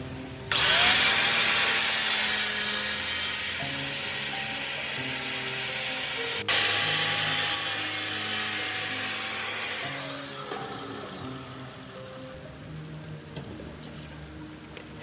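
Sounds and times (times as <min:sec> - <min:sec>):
background music with held notes: 0:00.0 - 0:15.0
power tool grinding metal: 0:00.3 - 0:12.4.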